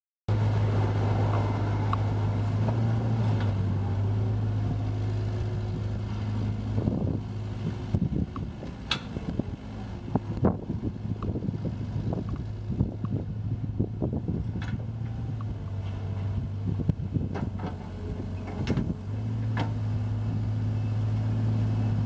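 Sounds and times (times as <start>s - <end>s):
excavator diesel engine running: 0.3s - 22.0s.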